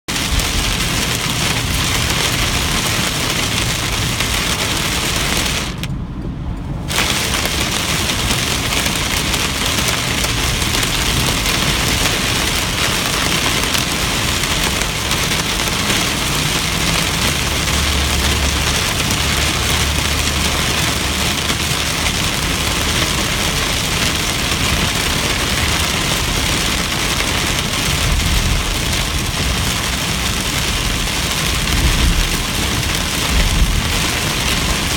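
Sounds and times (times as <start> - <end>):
heavy rain on car: 0.0 - 6.0, 6.7 - 34.9
car hum: 0.1 - 34.9
thunder rumbles: 0.1 - 34.9.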